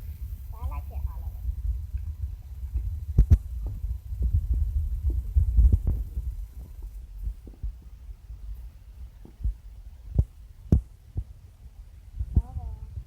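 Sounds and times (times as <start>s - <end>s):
low rumbling handling noise: 0.0s - 10.9s.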